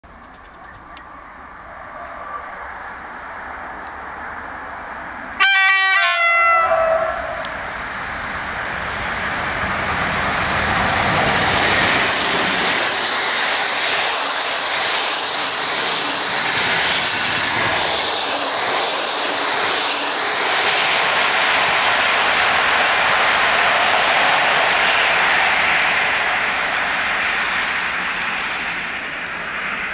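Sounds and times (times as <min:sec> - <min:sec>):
wheels rushing on rails: 0:00.0 - 0:29.9
train passing at speed: 0:00.1 - 0:29.9.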